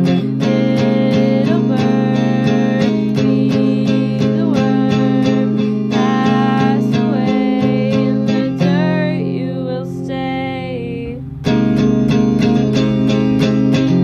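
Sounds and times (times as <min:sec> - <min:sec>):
person singing wavering notes: 0:00.0 - 0:11.6
guitar strumming: 0:00.0 - 0:14.0.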